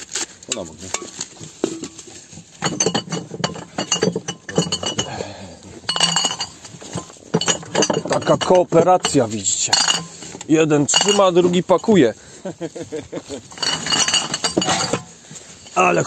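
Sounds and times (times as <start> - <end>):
glass bottles clinking: 0.5 - 16.0.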